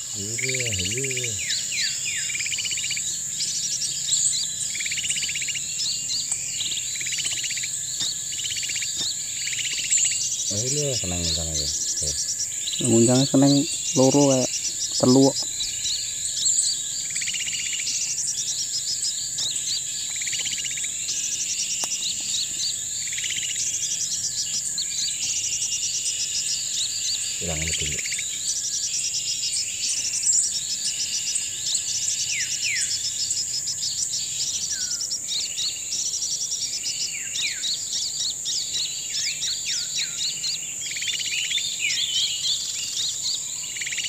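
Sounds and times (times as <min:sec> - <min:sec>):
insects hissing: 0:00.0 - 0:44.0
rapid chirping trills: 0:00.0 - 0:44.0.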